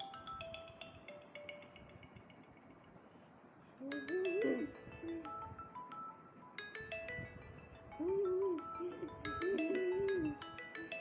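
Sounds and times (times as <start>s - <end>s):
chime-like ringtone melody: 0.0s - 2.6s, 3.8s - 11.0s.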